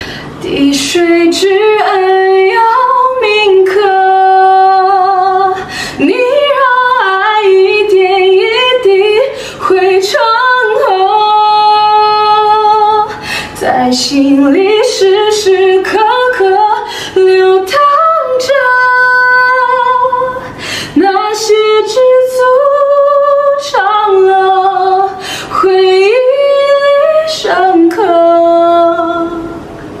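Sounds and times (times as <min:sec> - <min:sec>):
woman singing unaccompanied: 0:00.4 - 0:29.7.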